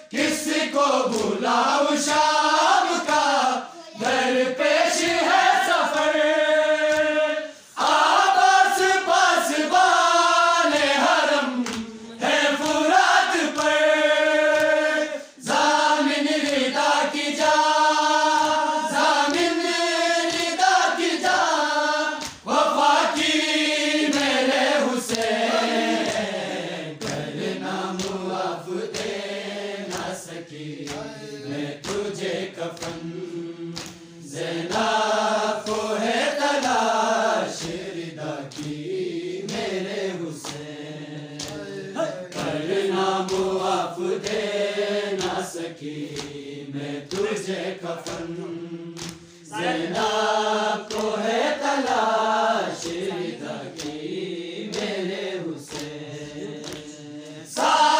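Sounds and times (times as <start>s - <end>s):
men chanting in unison: 0.0s - 57.9s
hand slaps: 0.1s - 40.8s, 41.4s - 57.9s.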